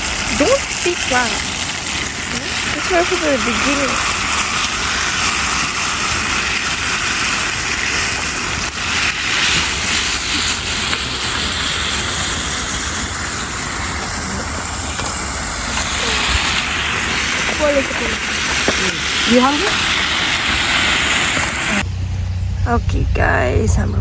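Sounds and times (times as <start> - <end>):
food sizzling in a pan: 0.0 - 21.9.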